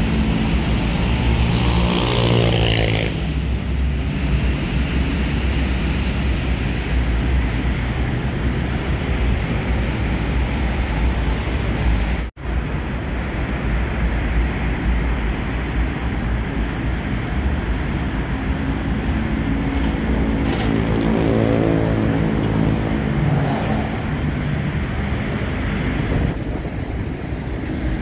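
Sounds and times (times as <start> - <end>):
road traffic noise: 0.0 - 28.0.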